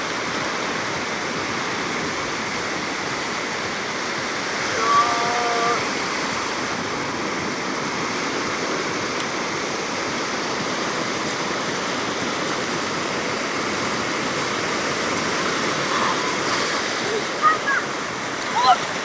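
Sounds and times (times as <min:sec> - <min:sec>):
surf breaking on a beach: 0:00.0 - 0:19.0.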